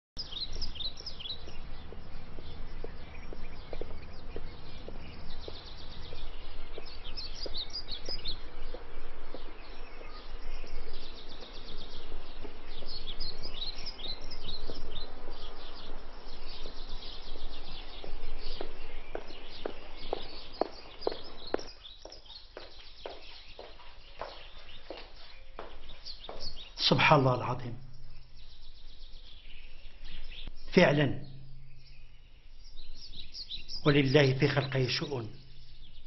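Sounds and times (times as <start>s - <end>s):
small birds chirping: 0.2s - 36.0s.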